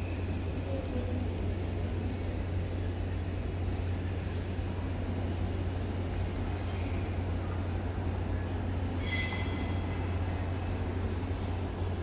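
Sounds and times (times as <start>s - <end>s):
low hum of station platform: 0.0s - 12.0s.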